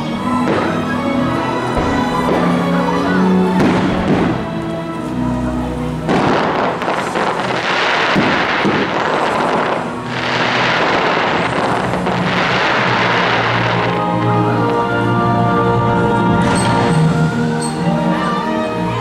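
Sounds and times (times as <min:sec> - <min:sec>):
fireworks crackling: 0:00.0 - 0:19.0
music: 0:00.0 - 0:19.0.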